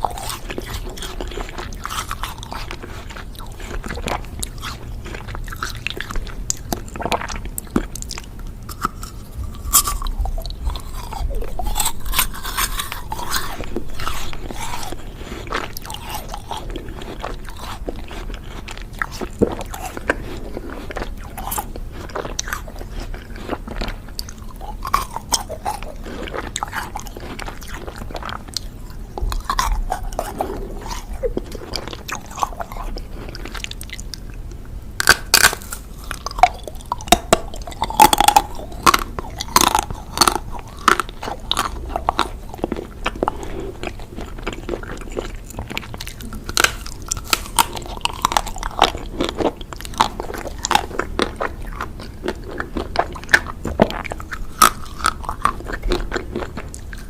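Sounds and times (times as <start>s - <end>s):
crunchy ice cream bites: 0.0s - 57.0s
wet chewing: 0.0s - 57.0s.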